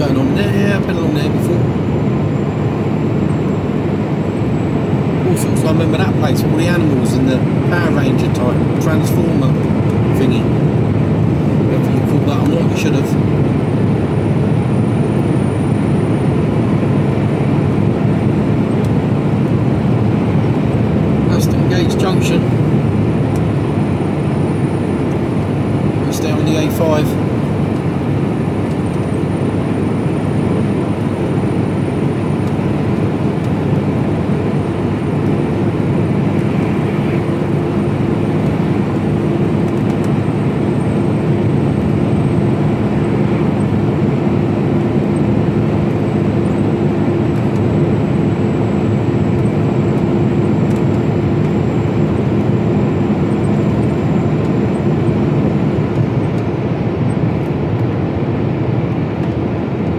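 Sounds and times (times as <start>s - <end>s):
lorry engine drone: 0.0s - 59.9s.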